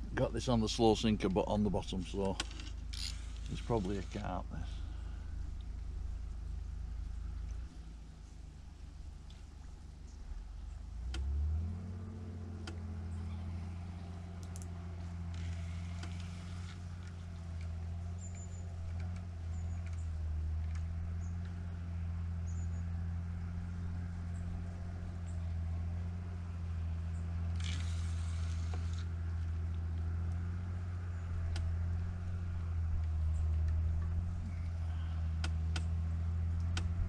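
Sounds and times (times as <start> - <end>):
motor droning: 0.0 - 37.0.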